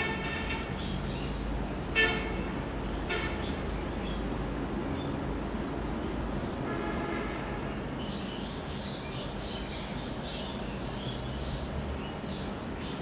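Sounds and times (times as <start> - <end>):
small birds chirping: 0.0 - 6.6, 7.7 - 13.0.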